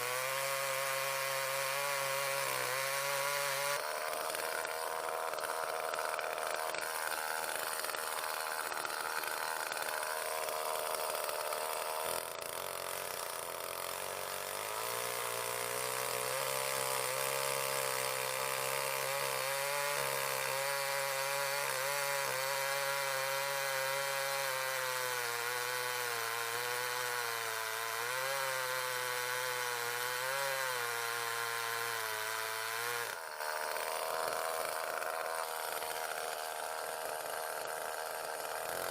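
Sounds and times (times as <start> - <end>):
chainsaw cutting a log: 0.0 - 38.9.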